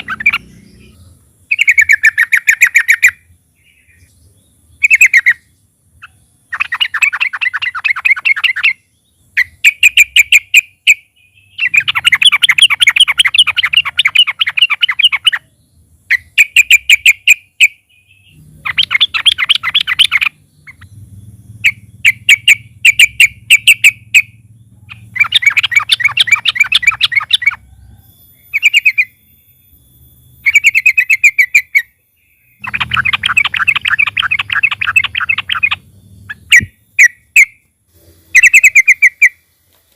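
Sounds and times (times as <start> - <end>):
bird singing chattering phrases: 0.0 - 39.5.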